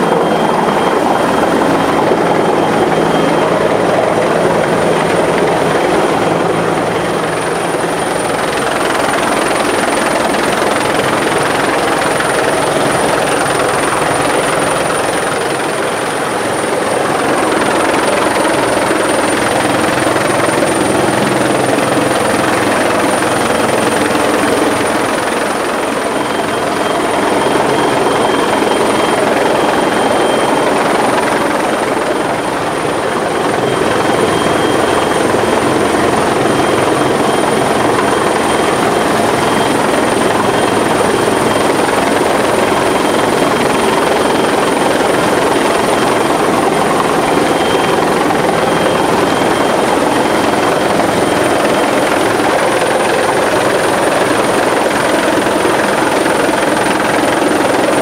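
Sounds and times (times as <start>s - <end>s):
helicopter rotor rush: 0.0s - 58.0s
high-pitched turbine whine: 0.0s - 58.0s.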